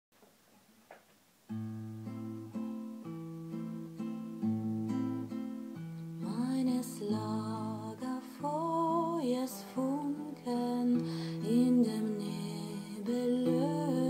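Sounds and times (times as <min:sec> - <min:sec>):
acoustic guitar picking and strumming: 0:01.5 - 0:14.0.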